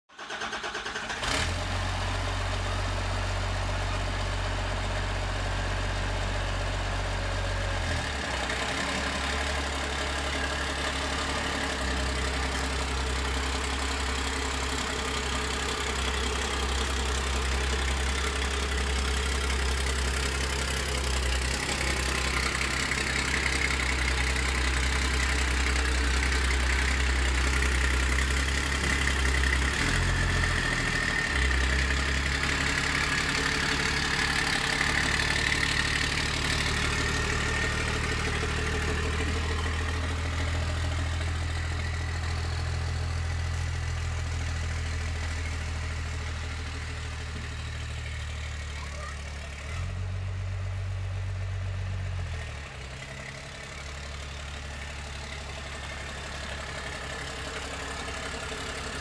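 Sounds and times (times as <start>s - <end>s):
diesel engine idling: 0.2s - 59.0s.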